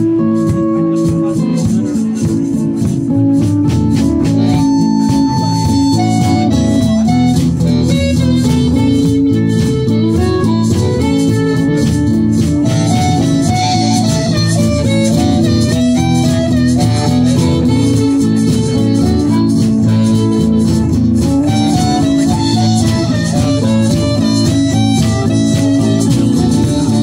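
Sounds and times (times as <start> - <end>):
acoustic string band playing: 0.0 - 27.0.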